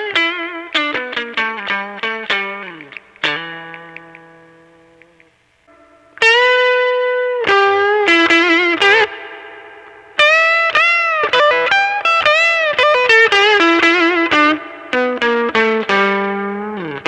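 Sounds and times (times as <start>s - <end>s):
electric guitar lead line: 0.0s - 17.0s.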